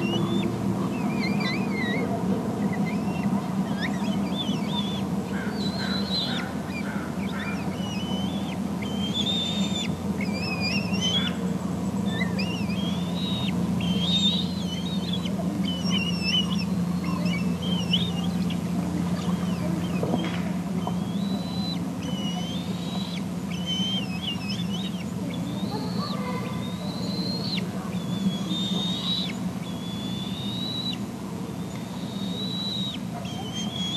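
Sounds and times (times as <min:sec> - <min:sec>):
eaglet begging calls: 0:00.0 - 0:33.9
steady low hum: 0:00.0 - 0:33.9.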